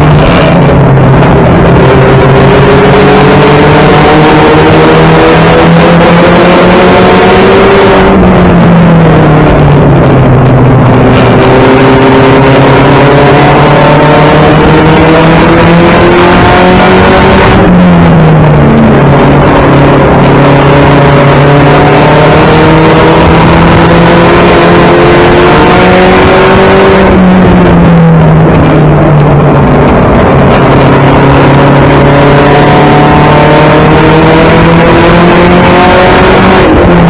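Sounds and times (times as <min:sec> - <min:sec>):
race car engine from inside: 0:00.0 - 0:37.0.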